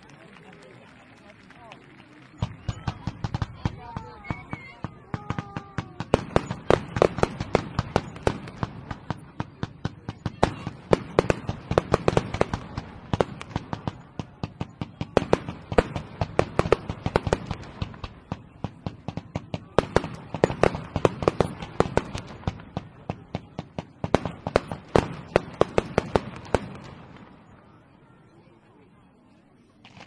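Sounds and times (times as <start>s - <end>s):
fireworks cracking and banging: 0.0s - 27.9s.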